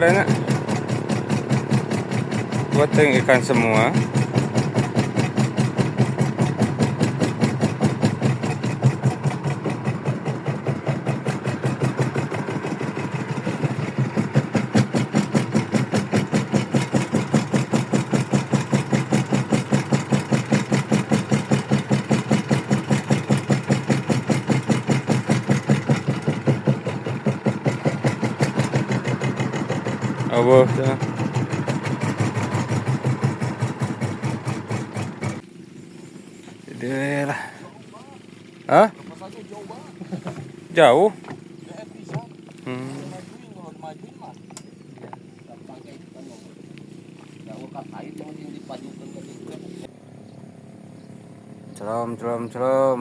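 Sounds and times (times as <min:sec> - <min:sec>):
small boat engine running: 0:00.0 - 0:53.0.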